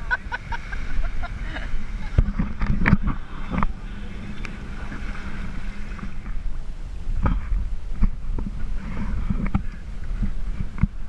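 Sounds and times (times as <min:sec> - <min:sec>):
boat motor running: 0:00.0 - 0:11.0
wind on microphone: 0:00.0 - 0:11.0.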